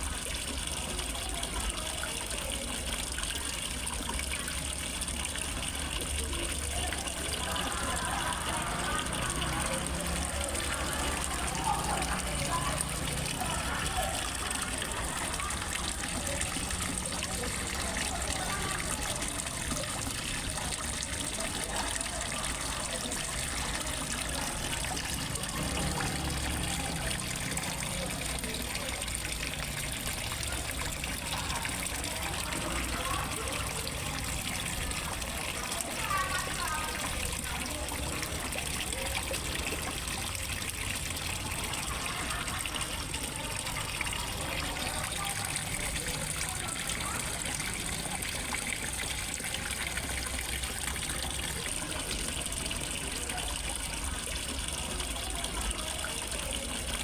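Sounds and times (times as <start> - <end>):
water trickling into a pond: 0.0 - 57.0.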